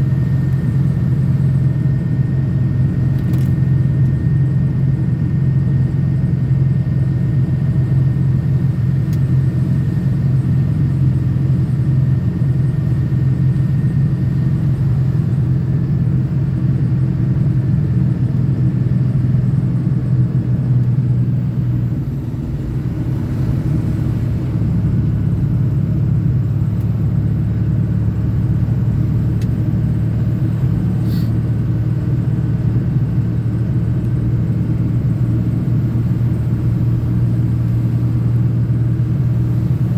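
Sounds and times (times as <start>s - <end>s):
pickup truck engine rumble: 0.0s - 39.9s
road noise: 0.0s - 39.9s.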